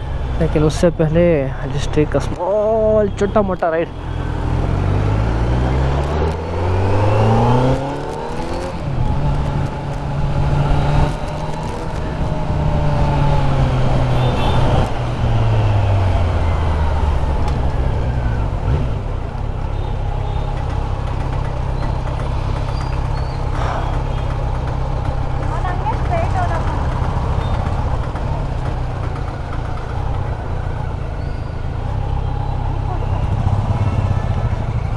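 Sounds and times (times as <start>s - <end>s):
motorcycle engine with gear changes: 4.2s - 34.9s.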